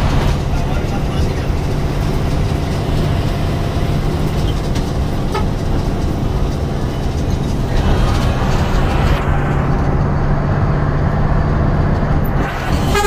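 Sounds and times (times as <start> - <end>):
bus body rattles: 0.0 - 13.0
diesel engine drone: 0.0 - 13.0
road and tyre noise: 0.0 - 13.0.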